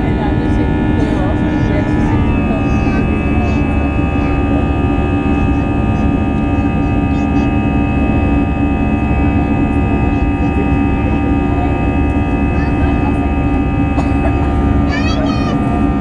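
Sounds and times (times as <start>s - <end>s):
constant engine tones: 0.0s - 16.0s
jet engine cabin rumble: 0.0s - 16.0s.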